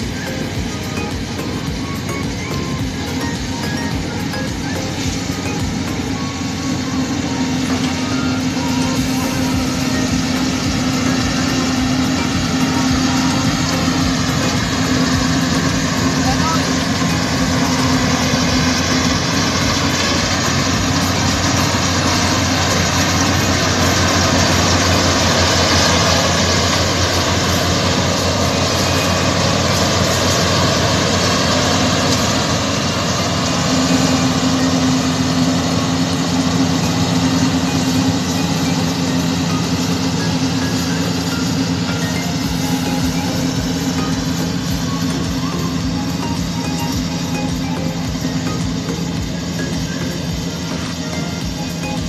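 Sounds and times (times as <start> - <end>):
combine harvester diesel engine: 0.0 - 52.0
cutting and threshing machinery: 0.0 - 52.0.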